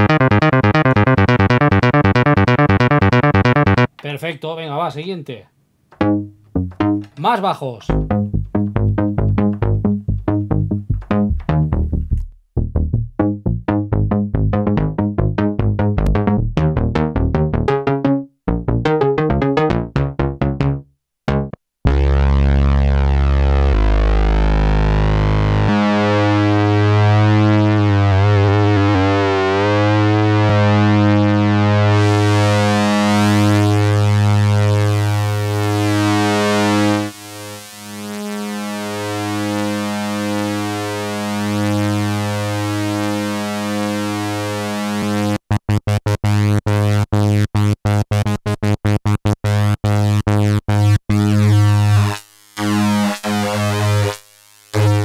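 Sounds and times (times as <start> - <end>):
synthesizer bass chord: 0.0 - 3.9, 6.0 - 7.3, 7.9 - 48.6, 49.2 - 54.2, 54.8 - 55.0.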